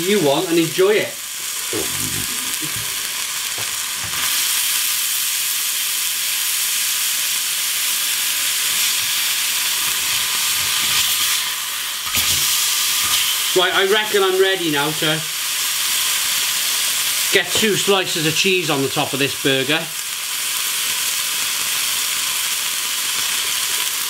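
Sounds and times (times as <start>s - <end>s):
burger and bacon sizzling: 0.0s - 24.0s.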